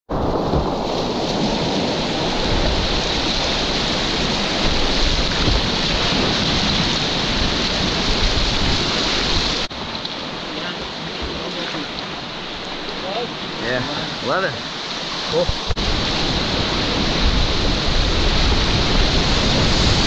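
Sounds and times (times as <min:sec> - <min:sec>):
river rapids rushing: 0:00.7 - 0:20.0.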